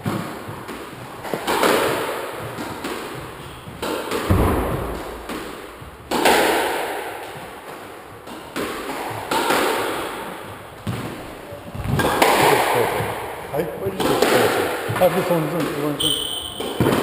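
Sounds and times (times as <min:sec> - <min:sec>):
squash ball hits echoing: 0:00.0 - 0:17.0.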